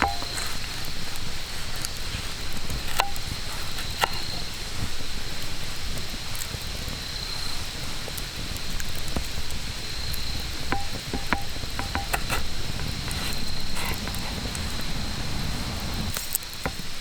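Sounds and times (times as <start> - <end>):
campfire pops and snaps: 0.0 - 17.0
low steady fire rumble: 0.0 - 17.0.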